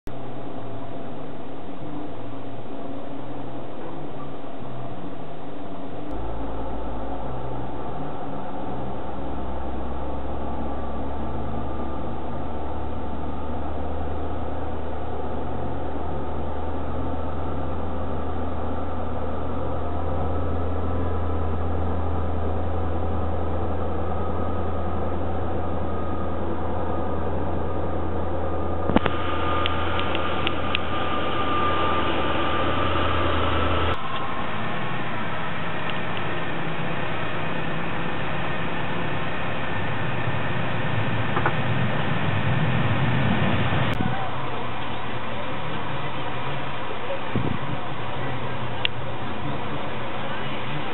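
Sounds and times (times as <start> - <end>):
locomotive humming: 0.1 - 50.9.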